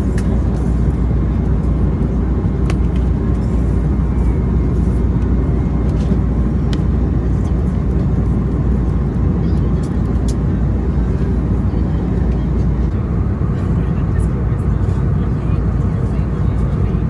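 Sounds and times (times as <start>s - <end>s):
airplane cabin low rumble: 0.0s - 17.0s.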